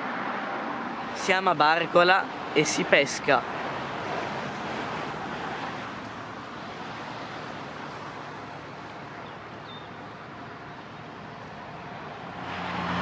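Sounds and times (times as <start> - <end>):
broad outdoor hiss: 0.8 - 12.8.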